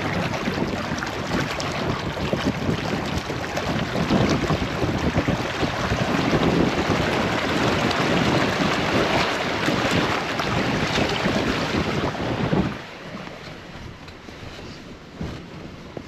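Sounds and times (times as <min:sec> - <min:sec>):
water rushing against vehicle: 0:00.0 - 0:16.0.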